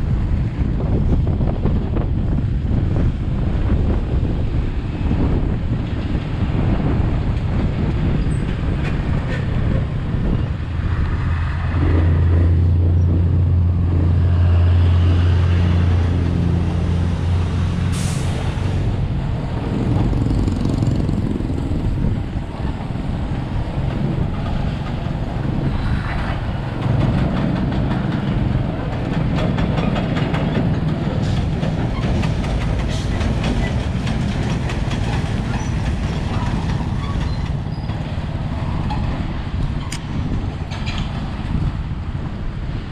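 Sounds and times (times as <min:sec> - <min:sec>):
road noise: 0:00.0 - 0:42.9.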